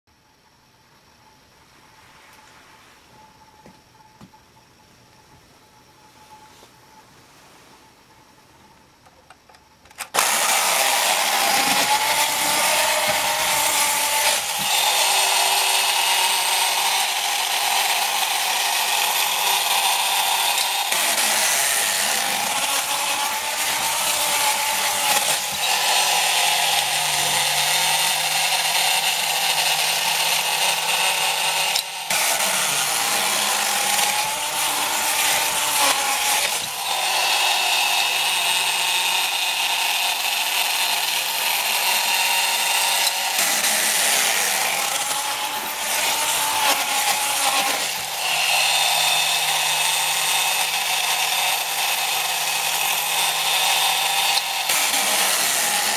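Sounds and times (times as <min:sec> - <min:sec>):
toy mechanism whirring and rattling: 0:09.5 - 0:55.9.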